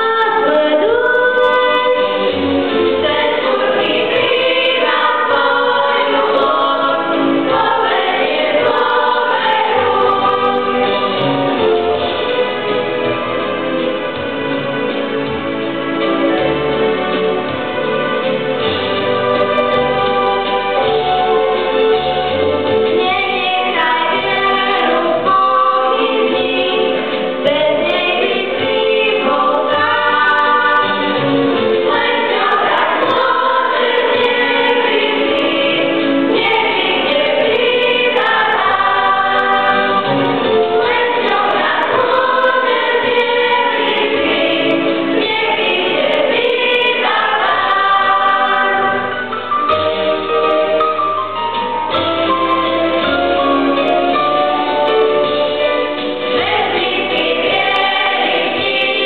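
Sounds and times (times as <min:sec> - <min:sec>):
children's choir singing: 0:00.0 - 0:59.0
instrumental accompaniment with bass: 0:00.0 - 0:59.0.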